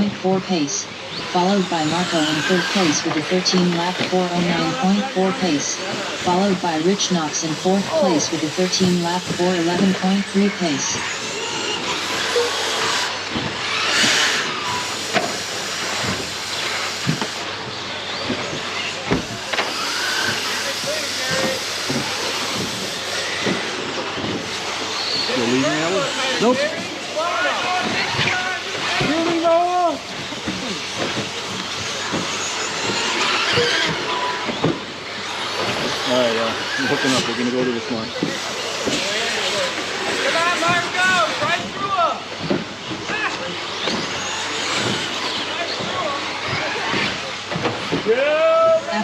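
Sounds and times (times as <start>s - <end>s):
rc truck motors and tyres hissing: 0.0s - 49.0s.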